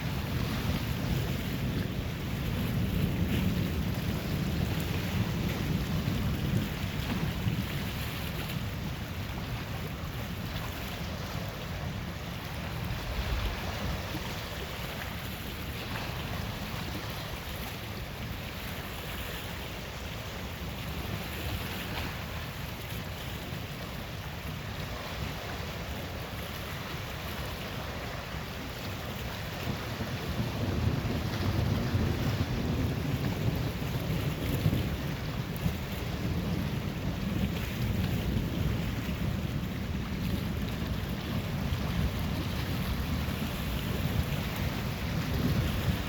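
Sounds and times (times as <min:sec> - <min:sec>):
rain: 0:00.0 - 0:46.0
wind: 0:00.0 - 0:46.0.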